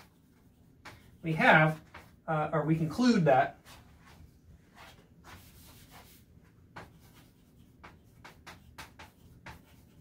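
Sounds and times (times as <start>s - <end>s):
chalk scratching on blackboard: 0.0s - 2.2s, 3.6s - 10.0s.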